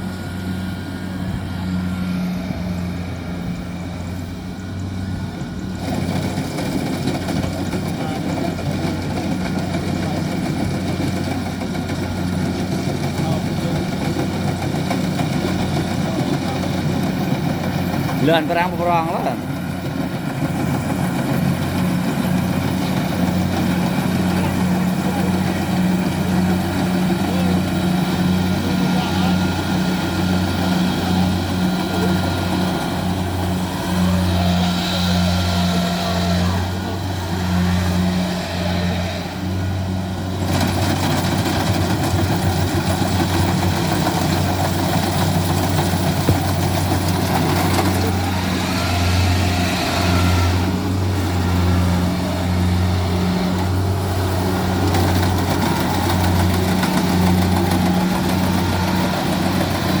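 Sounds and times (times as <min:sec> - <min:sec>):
combine harvester engine drone: 0:00.0 - 1:00.0.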